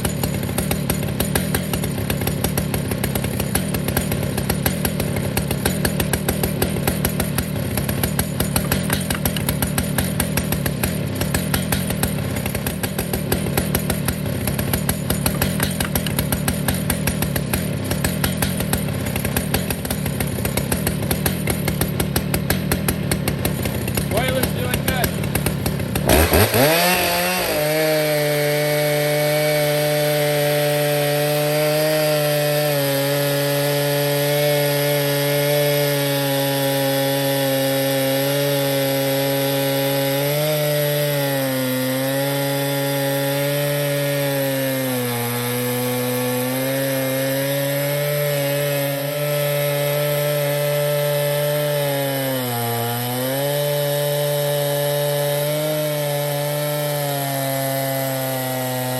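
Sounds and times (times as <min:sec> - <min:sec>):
chainsaw cutting through log: 0:00.0 - 0:58.9.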